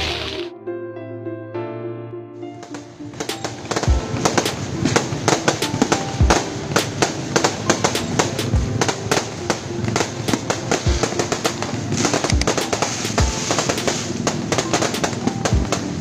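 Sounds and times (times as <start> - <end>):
fireworks bangs and crackles: 2.6 - 16.0.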